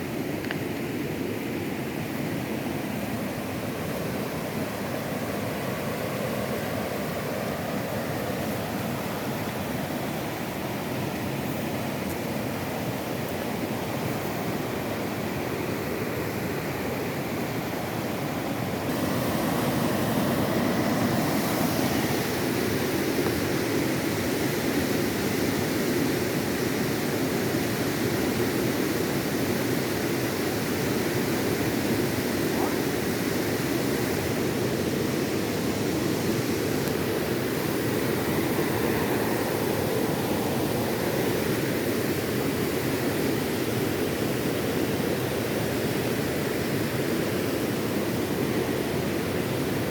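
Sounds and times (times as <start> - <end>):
waterfall and river rushing over rocks: 0.0 - 49.9.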